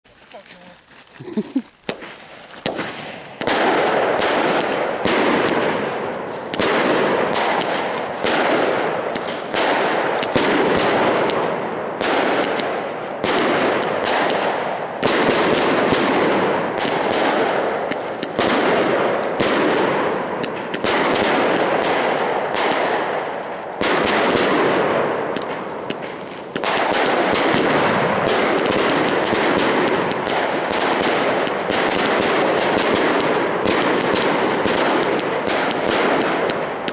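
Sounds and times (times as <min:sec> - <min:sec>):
firework cake rapid bangs: 0:01.9 - 0:36.9.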